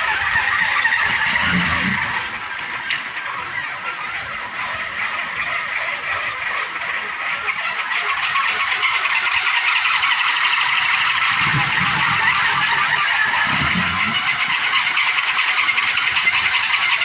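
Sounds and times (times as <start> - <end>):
wooden wind propeller buzzing: 0.0 - 17.0.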